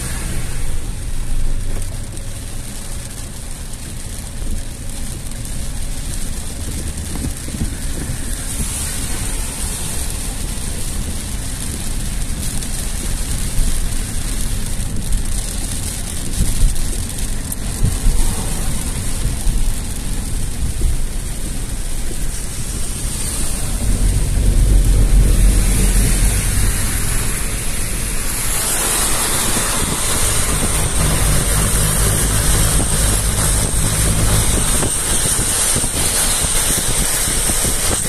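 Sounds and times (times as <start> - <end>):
car driving rumble: 0.0 - 38.0
heavy rain on car roof: 0.0 - 38.0.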